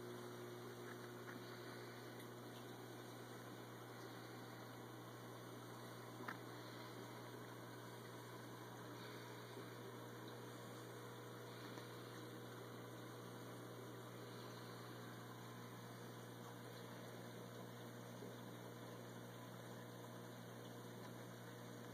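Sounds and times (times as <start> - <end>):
faint electrical hum: 0.0 - 21.9.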